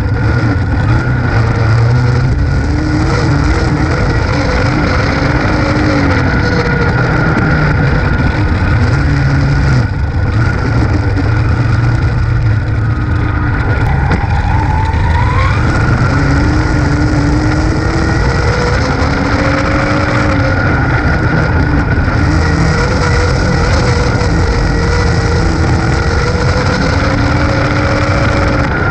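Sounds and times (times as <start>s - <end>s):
race car engine at speed: 0.0s - 28.9s.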